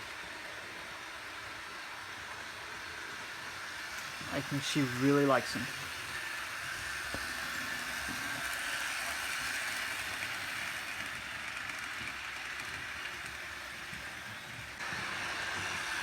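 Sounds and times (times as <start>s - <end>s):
model train whirring and rattling: 0.0s - 16.0s.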